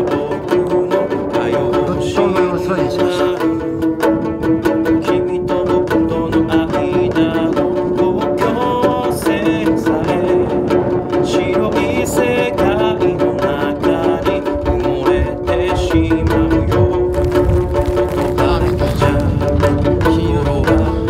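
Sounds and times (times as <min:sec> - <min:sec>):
man singing a ballad: 0:00.0 - 0:03.6, 0:05.0 - 0:17.3, 0:18.2 - 0:21.0
bowed cello: 0:00.0 - 0:21.0
plucked strings: 0:00.0 - 0:21.0.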